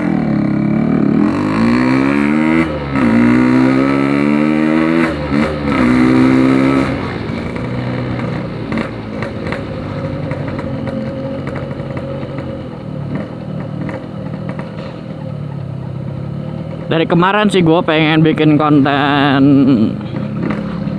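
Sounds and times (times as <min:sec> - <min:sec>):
two-stroke motorcycle engine revving: 0:00.0 - 0:20.9.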